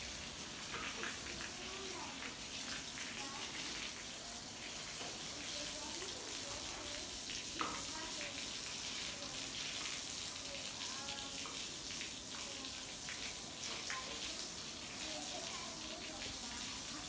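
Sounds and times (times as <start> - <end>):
hiss of running water: 0.0 - 17.0.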